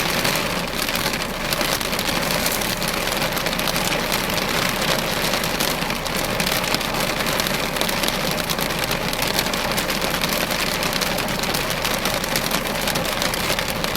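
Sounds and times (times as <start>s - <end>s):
hail and rain pelting down: 0.0s - 13.9s.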